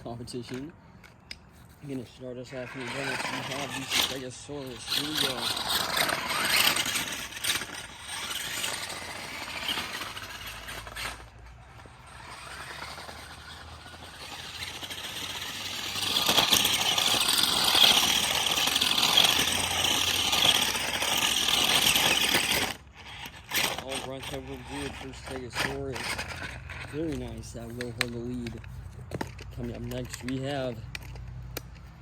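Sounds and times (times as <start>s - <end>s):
toy truck motor and spinning tyres: 0.0s - 32.0s.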